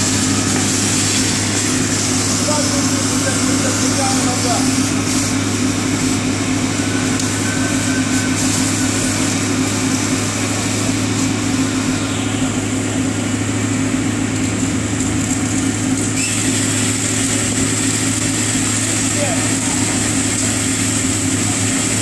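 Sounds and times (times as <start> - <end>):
fire engine running steadily: 0.0 - 22.0.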